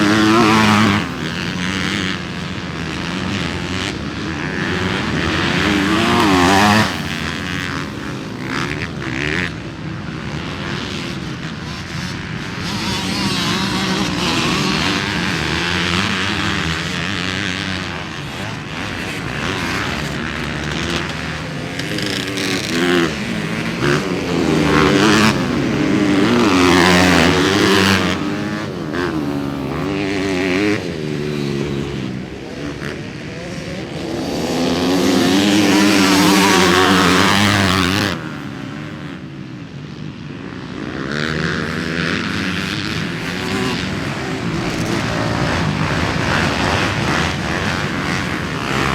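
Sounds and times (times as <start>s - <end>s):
motocross bikes revving: 0.0s - 48.9s.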